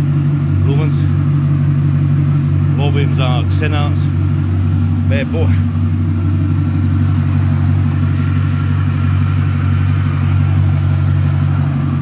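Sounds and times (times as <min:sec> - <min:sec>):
engine idling deep burble: 0:00.0 - 0:12.0.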